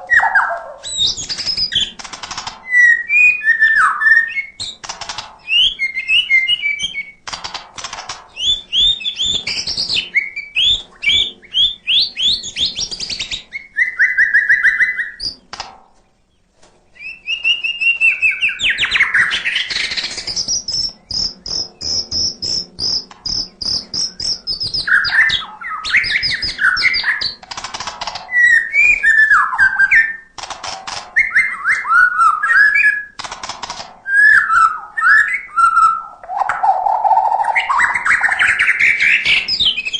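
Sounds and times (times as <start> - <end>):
bird singing whistles and trills: 0.0 - 7.2, 8.3 - 15.4, 16.9 - 27.4, 28.2 - 30.3, 31.1 - 33.2, 34.0 - 39.9.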